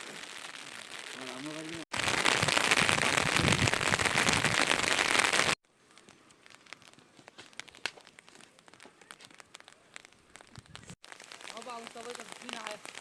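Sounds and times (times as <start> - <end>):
heavy rain pattering: 0.0 - 13.0
light rain drops ticking: 0.0 - 13.0.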